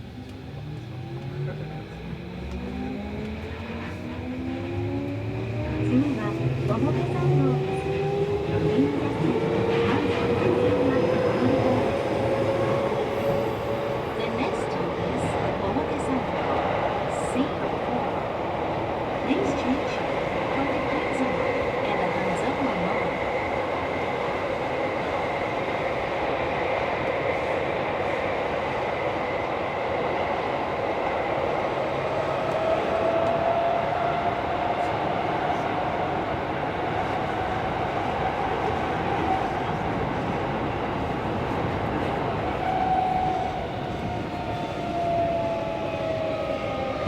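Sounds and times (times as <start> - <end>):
subway car wheels rumbling on rails: 0.0 - 47.0.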